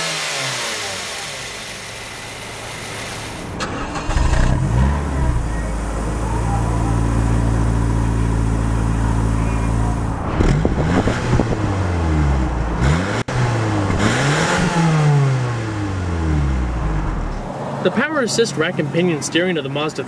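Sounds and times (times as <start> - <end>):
car engine idling and revving: 0.0 - 17.7.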